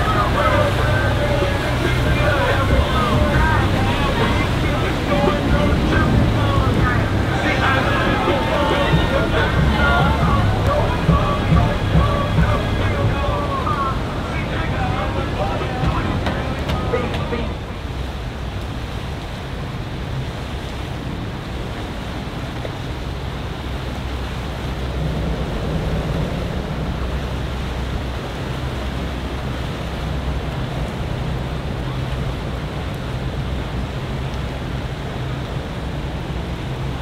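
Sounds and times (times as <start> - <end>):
outboard motors droning: 0.0 - 37.0
water wash: 0.0 - 37.0
wind: 0.0 - 37.0.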